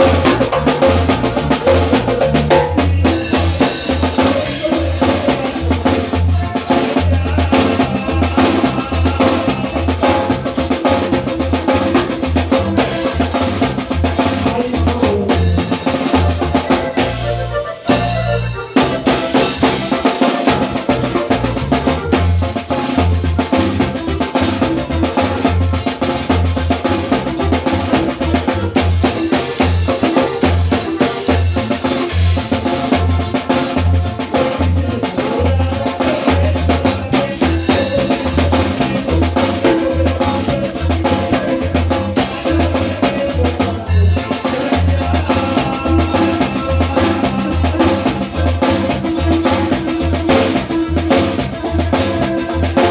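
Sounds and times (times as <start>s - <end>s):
band music with fast drums: 0.0s - 52.9s
pulsing bass line: 0.0s - 52.9s.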